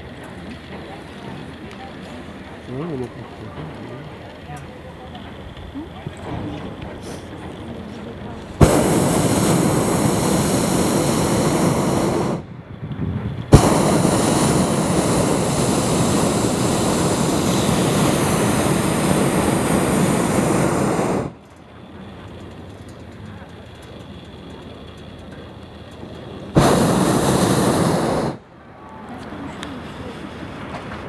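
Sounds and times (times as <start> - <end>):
propane burner roaring: 0.0 - 31.0.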